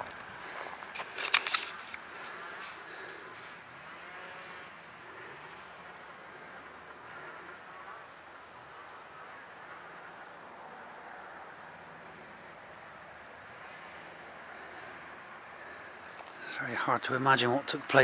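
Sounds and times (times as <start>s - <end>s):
insect song pulsing: 0.0s - 18.0s
light outdoor hiss: 0.0s - 18.0s.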